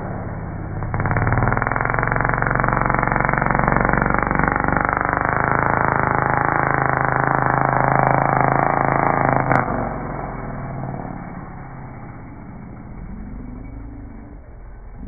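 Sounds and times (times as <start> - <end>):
rc buggy engine at high revs: 0.0 - 15.0.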